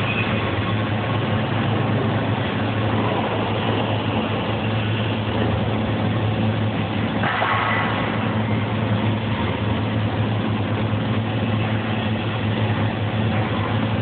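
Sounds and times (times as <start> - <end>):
welding arc crackling: 0.0 - 14.0
welding machine low hum: 0.0 - 14.0.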